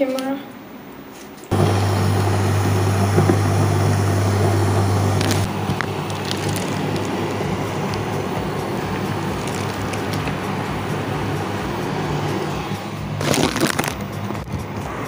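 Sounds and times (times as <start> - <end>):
low steady hum: 1.5 - 13.7
water boiling in pot: 1.5 - 14.1.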